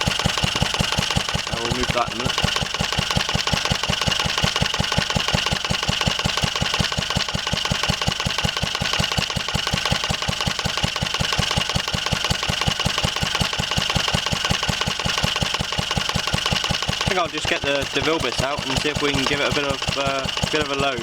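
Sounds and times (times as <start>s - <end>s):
stationary engine running: 0.0s - 21.0s.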